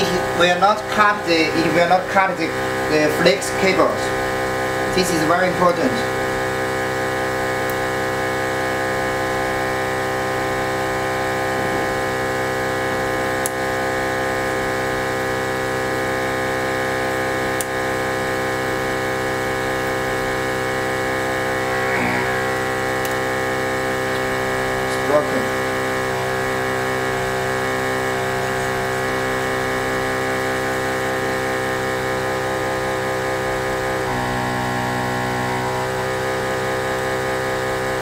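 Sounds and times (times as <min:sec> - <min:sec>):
machine motor hum: 0:00.0 - 0:38.0.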